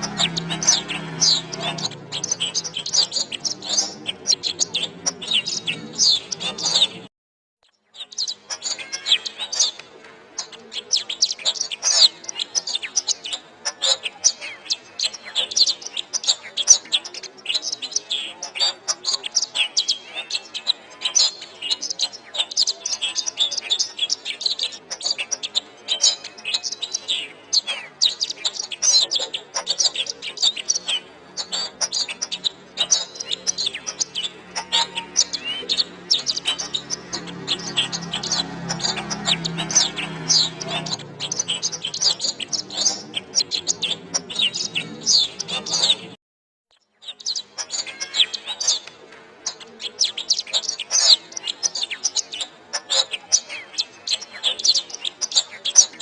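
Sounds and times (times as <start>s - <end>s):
canary singing: 0.0s - 7.1s, 7.7s - 46.2s, 46.8s - 56.0s.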